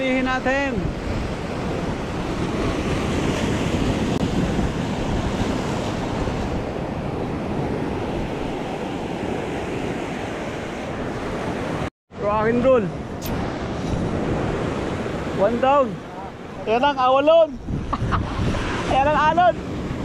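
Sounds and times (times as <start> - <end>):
surf breaking on rocky shore: 0.0 - 20.0
wind on microphone: 0.0 - 20.0.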